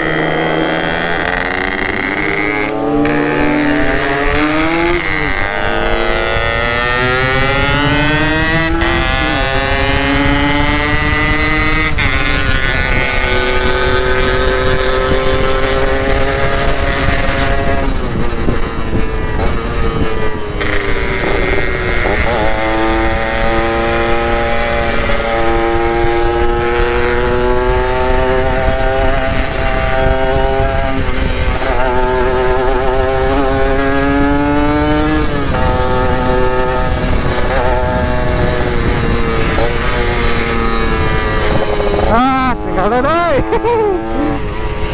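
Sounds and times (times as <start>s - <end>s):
two-stroke motorcycle engine revving: 0.0s - 44.9s
wind noise: 0.0s - 44.9s.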